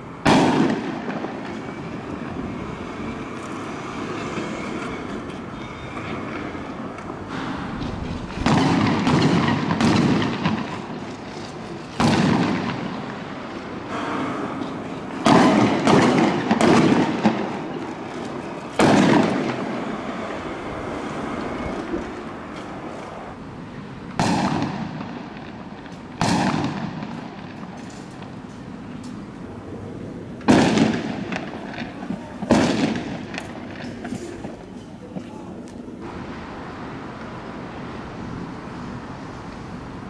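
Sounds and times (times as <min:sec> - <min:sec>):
fireworks bangs: 0:00.0 - 0:05.2, 0:06.0 - 0:23.2, 0:24.0 - 0:28.5, 0:30.3 - 0:36.8.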